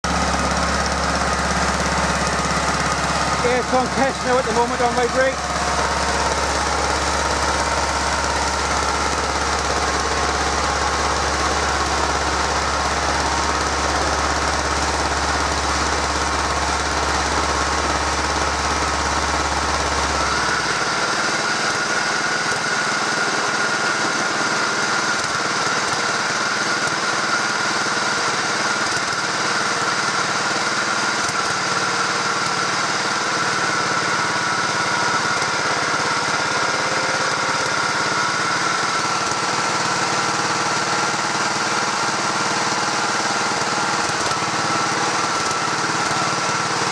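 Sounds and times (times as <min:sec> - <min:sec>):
roller engine running: 0:00.0 - 0:46.9.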